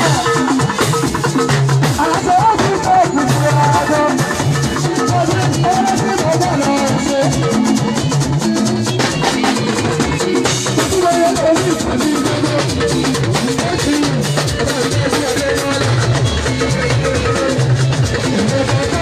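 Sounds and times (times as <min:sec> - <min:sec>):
drum kit and percussion beat: 0:00.0 - 0:19.0
gospel band music: 0:00.0 - 0:19.0.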